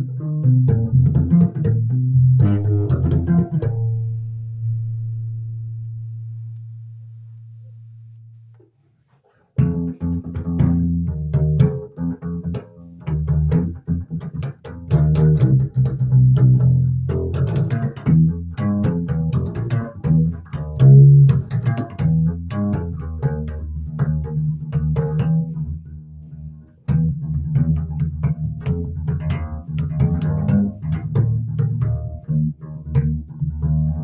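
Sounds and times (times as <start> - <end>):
electric bass guitar: 0.0 - 8.5, 9.6 - 34.0.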